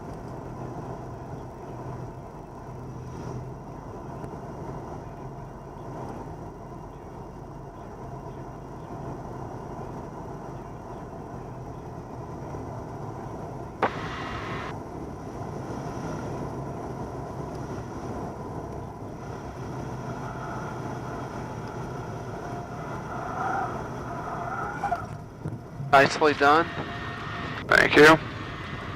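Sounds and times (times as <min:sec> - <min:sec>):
aircraft engine drone: 0:00.0 - 0:28.9.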